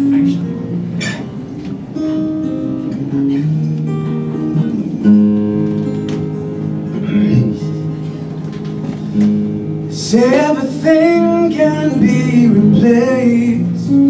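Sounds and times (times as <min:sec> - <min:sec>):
acoustic guitar playing chords: 0:00.0 - 0:14.0.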